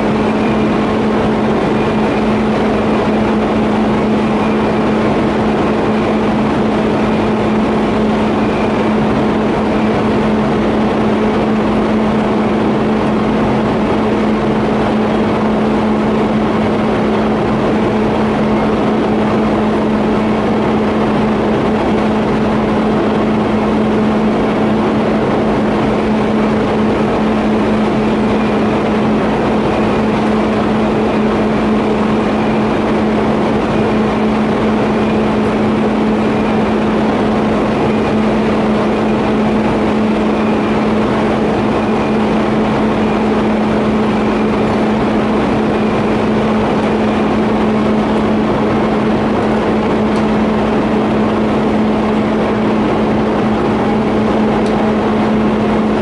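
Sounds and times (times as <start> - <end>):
welding electrical hum: 0.0 - 56.0.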